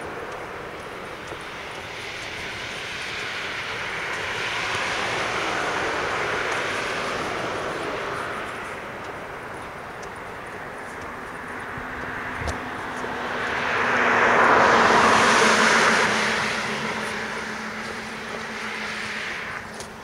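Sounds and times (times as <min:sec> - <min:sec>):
aircraft passing overhead: 0:00.0 - 0:20.0.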